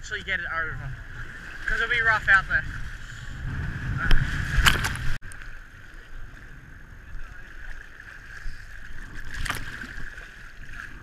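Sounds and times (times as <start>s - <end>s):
surf lapping: 0.0s - 11.0s.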